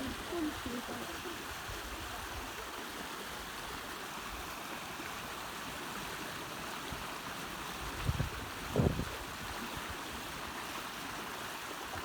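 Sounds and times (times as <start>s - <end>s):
river water gushing over rocks: 0.0s - 12.0s.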